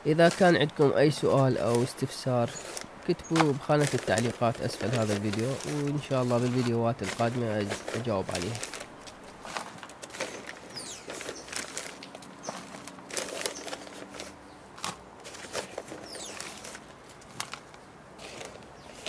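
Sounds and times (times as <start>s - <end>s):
plastic bags crinkling: 0.0s - 19.0s
soil rustling and scraping: 0.0s - 19.0s.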